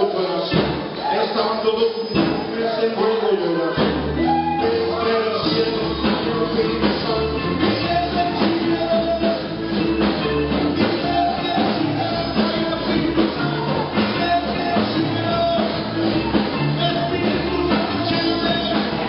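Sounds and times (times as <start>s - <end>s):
drum kit: 0.4s - 1.1s, 2.0s - 2.8s, 3.7s - 19.0s
bass line: 0.5s - 19.0s
person singing: 1.0s - 19.0s.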